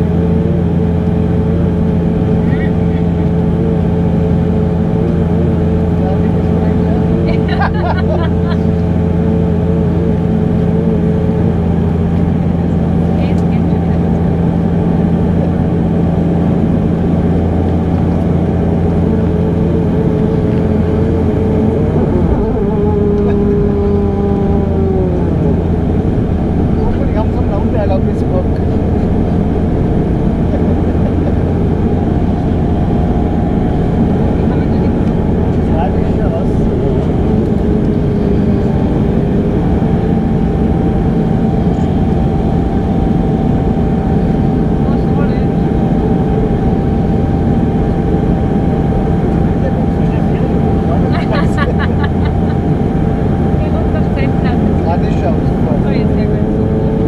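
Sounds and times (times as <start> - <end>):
turboprop engine drone in cabin: 0.0 - 57.0.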